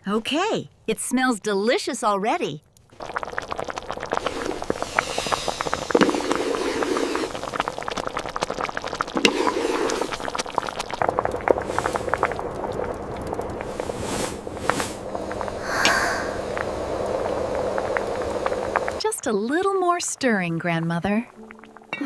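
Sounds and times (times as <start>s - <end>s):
crackles and pops: 2.4s - 22.0s
vegetables sizzling in a pot: 2.9s - 21.9s.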